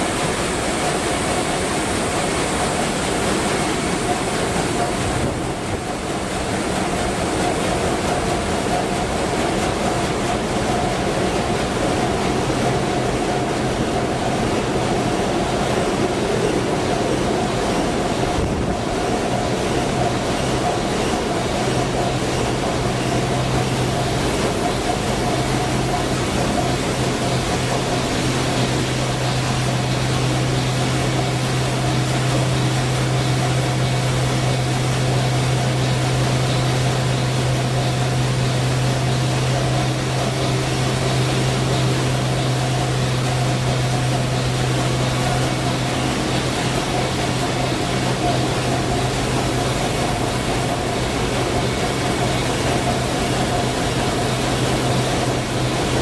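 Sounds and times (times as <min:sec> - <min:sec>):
marine diesel engine roar: 0:00.0 - 0:56.0.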